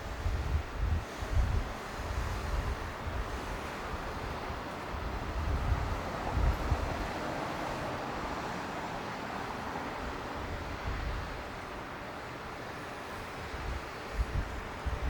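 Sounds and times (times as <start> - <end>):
wind buffeting microphone: 0.0 - 11.9, 13.2 - 15.0
jet engines rushing: 0.0 - 15.0.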